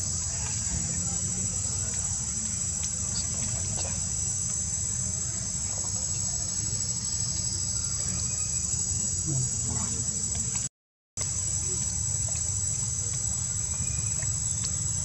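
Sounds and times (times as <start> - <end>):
high-pitched insect chorus: 0.0 - 10.6, 11.2 - 15.0.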